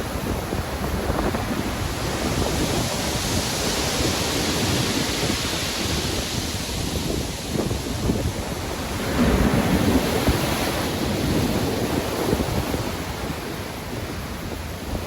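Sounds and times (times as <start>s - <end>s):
ocean waves breaking: 0.0s - 15.0s
wind: 0.0s - 15.0s.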